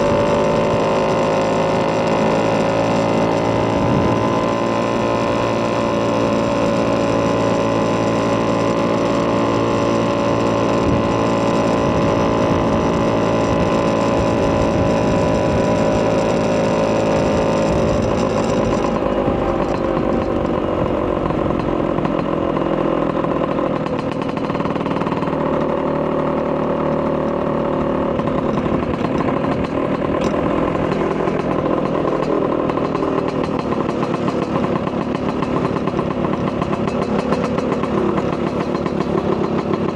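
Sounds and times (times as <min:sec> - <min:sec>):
two-stroke scooter engine running: 0:00.0 - 0:39.9.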